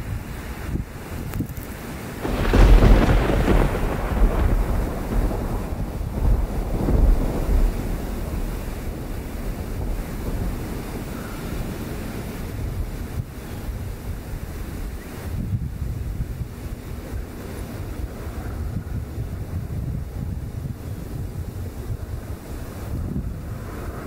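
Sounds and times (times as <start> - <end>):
gusting wind buffeting microphone: 0.0 - 24.0.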